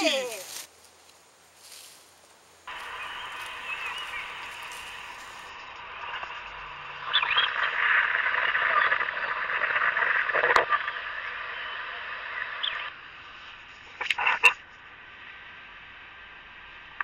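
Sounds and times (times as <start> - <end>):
frogs croaking: 0.0 - 16.6.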